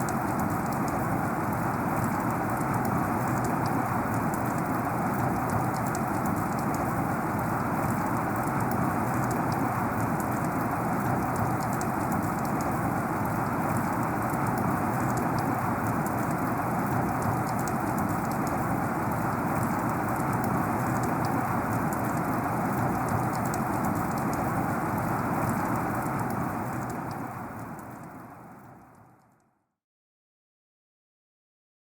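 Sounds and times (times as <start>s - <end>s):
heavy rain falling: 0.0s - 28.8s.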